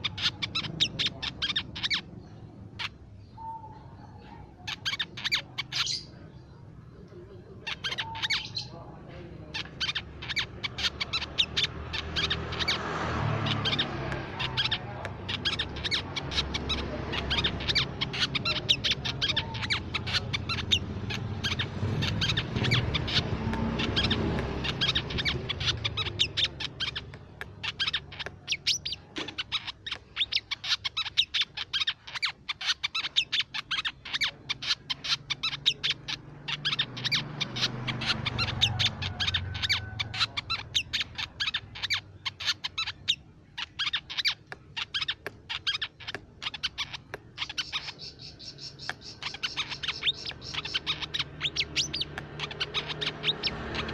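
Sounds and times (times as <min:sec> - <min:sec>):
bird chipping and twittering: 0:00.0 - 0:53.9.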